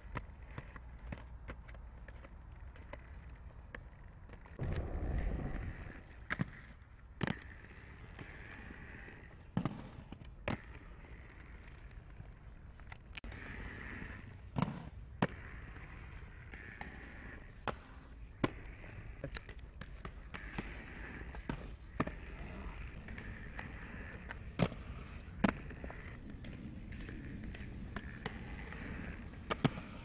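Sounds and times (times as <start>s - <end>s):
skate wheels rolling on asphalt: 0.0s - 30.0s
skates clacking on ground: 0.0s - 30.0s.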